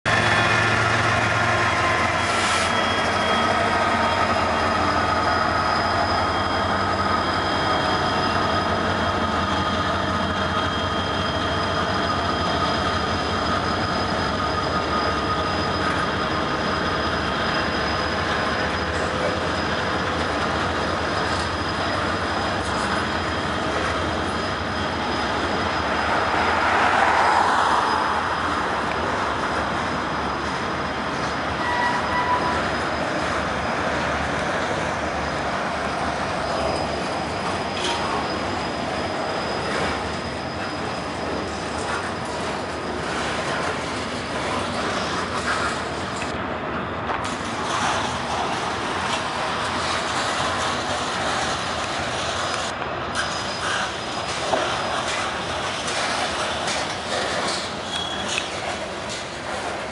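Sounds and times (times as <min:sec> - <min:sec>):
freight train rumbling past: 0:00.0 - 0:59.9
high wheel squeal: 0:00.1 - 0:59.9.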